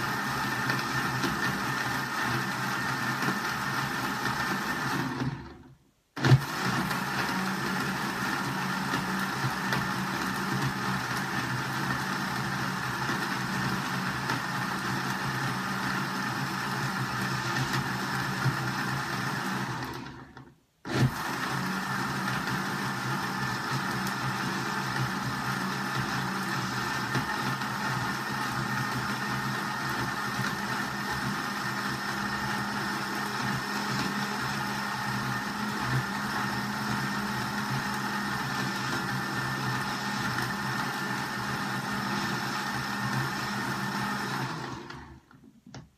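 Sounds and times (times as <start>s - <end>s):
electric blender grinding: 0.0s - 45.4s.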